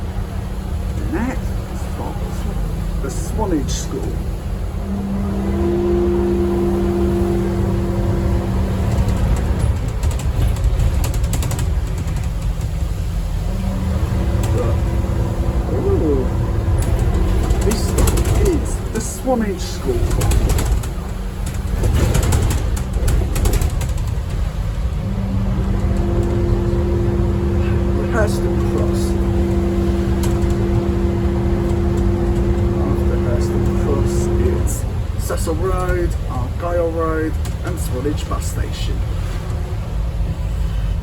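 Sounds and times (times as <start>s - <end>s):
bus engine rumble: 0.0s - 41.0s
drivetrain whine: 0.0s - 41.0s
interior rattles and clicks: 0.0s - 41.0s.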